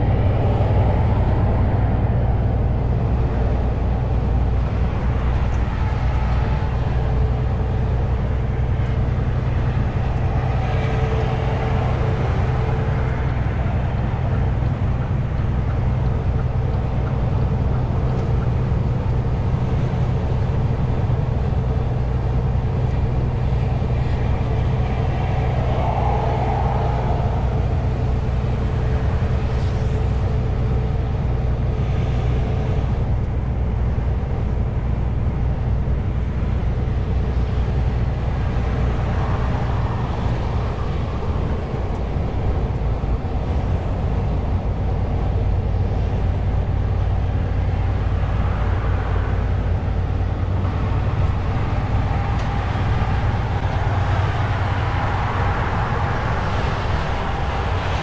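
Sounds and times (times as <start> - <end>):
road noise: 0.0 - 58.0
truck engine drone: 0.0 - 58.0.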